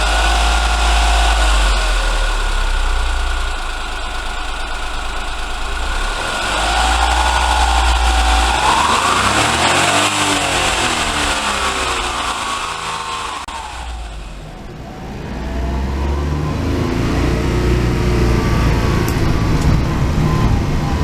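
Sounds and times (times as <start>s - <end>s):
car engine droning: 0.0s - 21.0s
car transmission whine: 0.0s - 21.0s.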